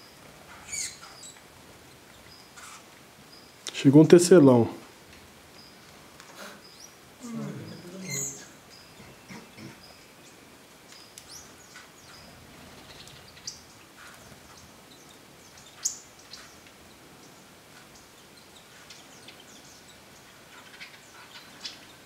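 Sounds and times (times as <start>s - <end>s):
birds chirping: 0.0s - 22.0s
faint forest background: 0.0s - 22.0s.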